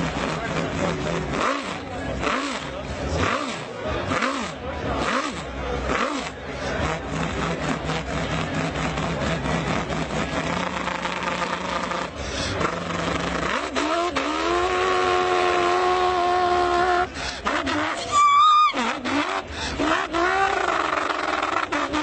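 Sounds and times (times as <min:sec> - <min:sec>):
person imitating car engine: 0:00.0 - 0:22.0.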